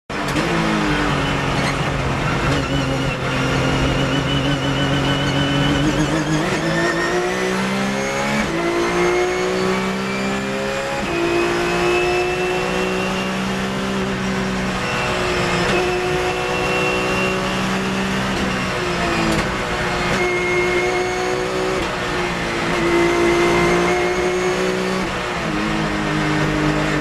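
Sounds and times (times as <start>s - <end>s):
race car engine accelerating: 0.1s - 27.0s.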